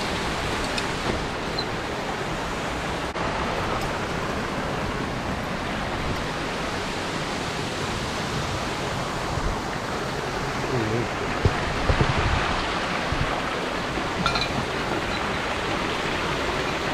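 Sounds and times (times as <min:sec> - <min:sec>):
stream water rushing: 0:00.0 - 0:16.9.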